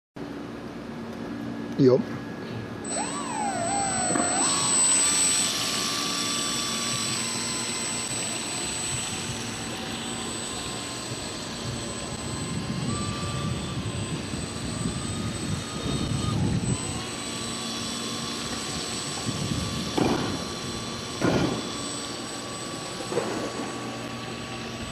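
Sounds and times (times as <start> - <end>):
model boat motor whirring: 2.8 - 24.9.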